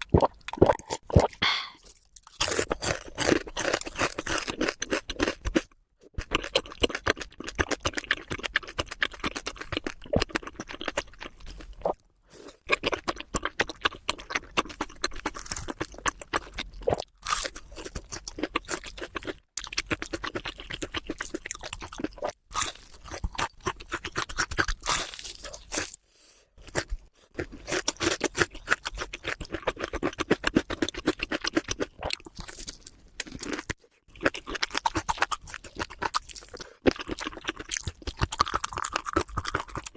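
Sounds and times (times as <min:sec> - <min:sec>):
chewing crunchy food: 0:00.0 - 0:26.0, 0:26.6 - 0:39.9.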